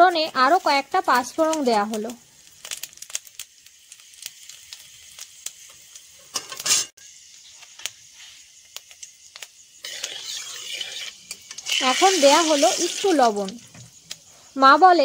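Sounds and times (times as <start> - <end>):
seeds sizzling and popping in oil: 0.0 - 15.0.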